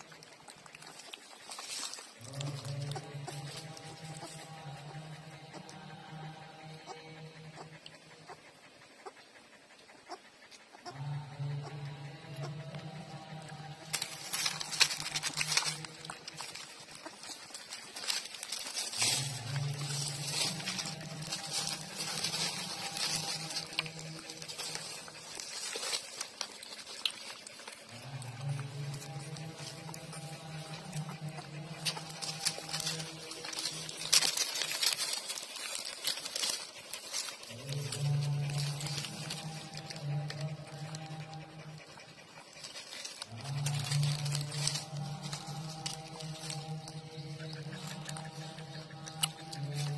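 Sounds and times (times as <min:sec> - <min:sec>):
puppies suckling: 0:00.0 - 0:49.9
steady low hum: 0:00.0 - 0:49.9.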